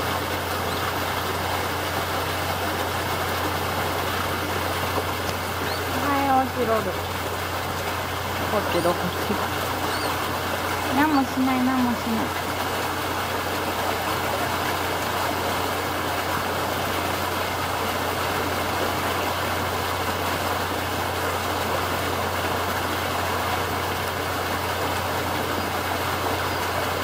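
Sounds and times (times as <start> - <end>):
flowing water rushing: 0.0 - 27.0
low machinery hum: 0.0 - 27.0.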